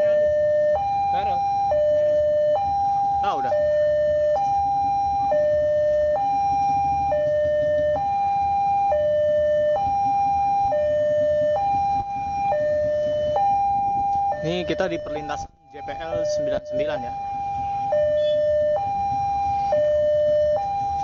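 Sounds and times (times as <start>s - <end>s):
faint road traffic rumble: 0.0s - 21.0s
level crossing two-tone alarm: 0.0s - 21.0s.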